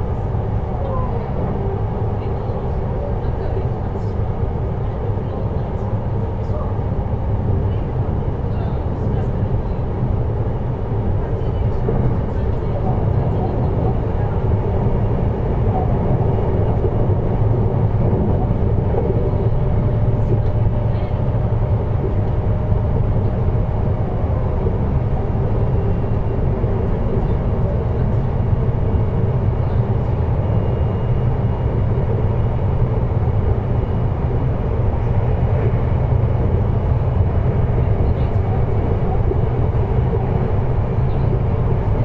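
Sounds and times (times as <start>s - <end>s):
low rumble of wheels on rail: 0.0s - 42.0s.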